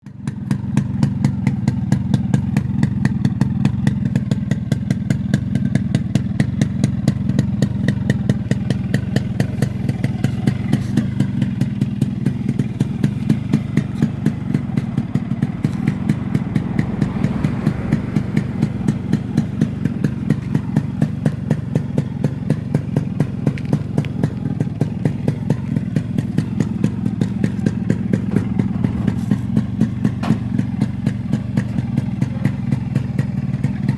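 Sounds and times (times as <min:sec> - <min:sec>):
two-stroke engine idling: 0:00.0 - 0:33.9.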